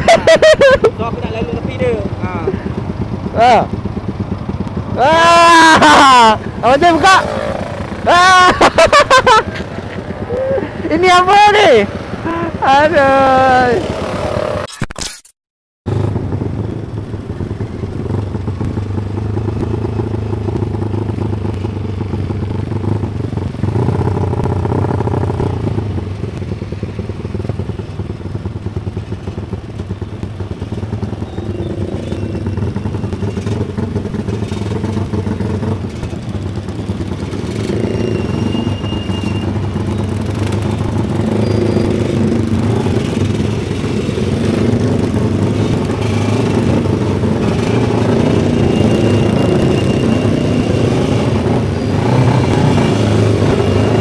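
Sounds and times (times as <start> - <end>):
motorcycle engine running: 0.0 - 14.7, 15.9 - 54.0.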